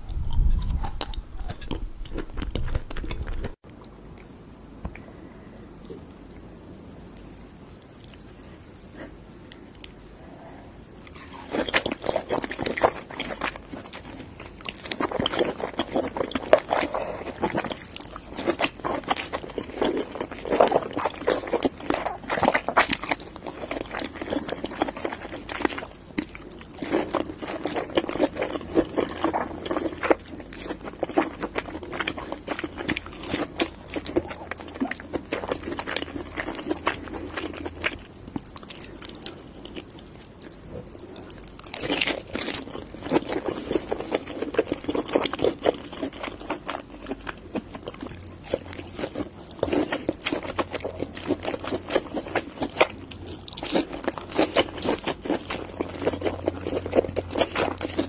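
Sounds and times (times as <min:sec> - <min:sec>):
person chewing crab meat: 0:07.1 - 0:58.0.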